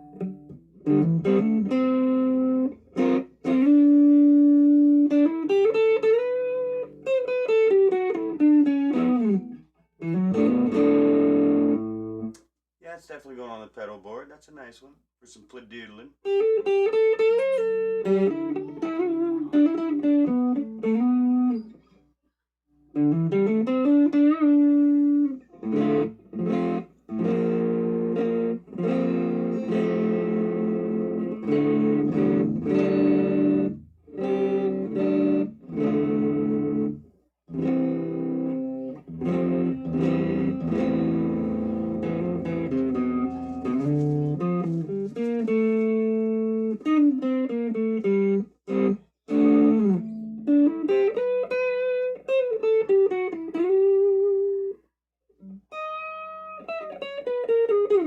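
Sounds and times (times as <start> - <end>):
overdriven electric guitar: 0.0 - 12.4, 16.2 - 22.0, 22.9 - 54.8, 55.4 - 58.0.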